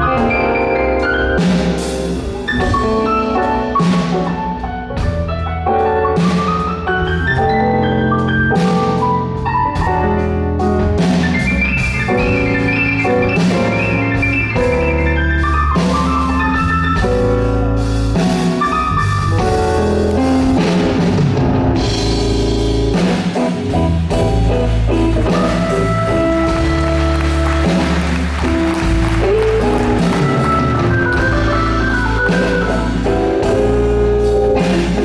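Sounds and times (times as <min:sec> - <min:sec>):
bass: 0:00.0 - 0:35.0
drum kit: 0:00.0 - 0:35.0
melodic instruments: 0:00.0 - 0:35.0.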